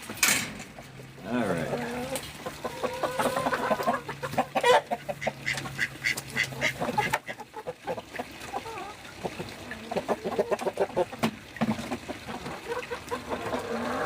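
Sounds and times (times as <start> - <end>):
chickens clucking and squawking: 0.7 - 14.0.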